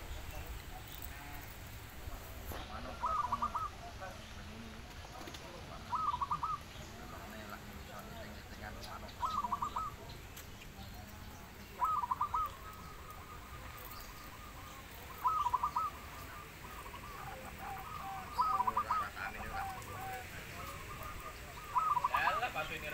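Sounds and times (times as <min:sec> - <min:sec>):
dove cooing: 0:02.5 - 0:10.2, 0:11.0 - 0:22.9.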